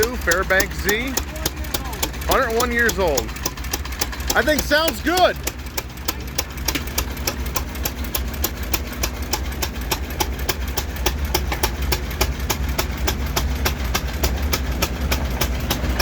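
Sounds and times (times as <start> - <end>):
engine clattering: 0.0 - 16.0.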